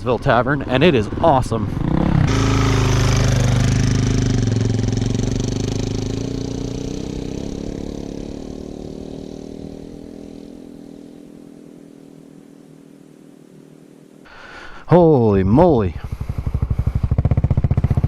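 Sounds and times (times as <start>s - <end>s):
motorcycle engine running: 0.0s - 14.1s, 15.6s - 18.0s.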